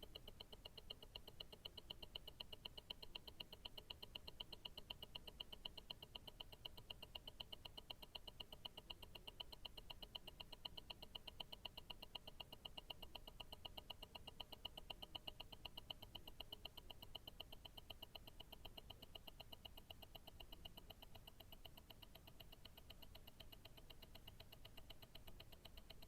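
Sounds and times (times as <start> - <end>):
watch ticking: 0.0 - 26.0.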